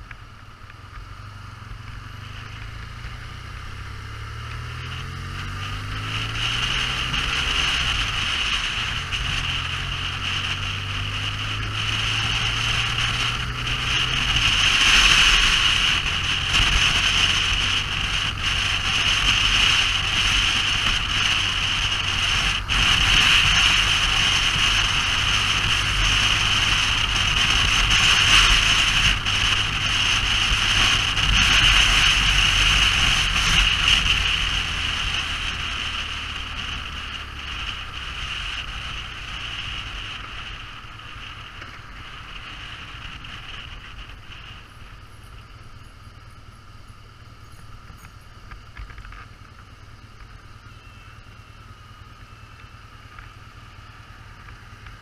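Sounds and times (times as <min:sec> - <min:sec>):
motorcycle engine hum: 0:00.0 - 0:55.0
rushing wind noise: 0:01.2 - 0:49.6.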